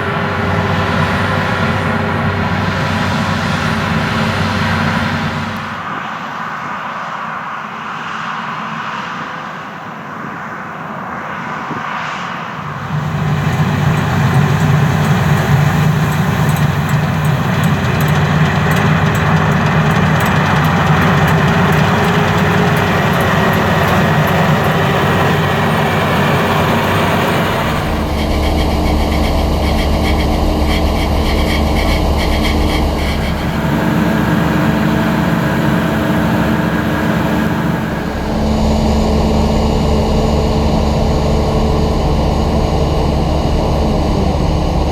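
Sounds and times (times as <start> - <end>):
combine harvester running: 0.0 - 5.9, 12.7 - 44.9.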